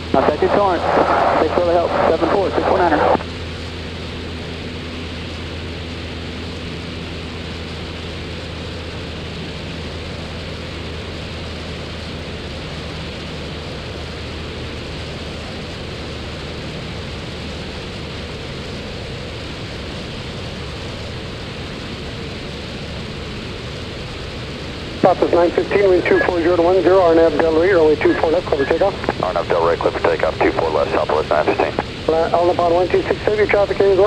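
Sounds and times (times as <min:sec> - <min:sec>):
airplane engine and propeller drone: 0:00.0 - 0:34.0.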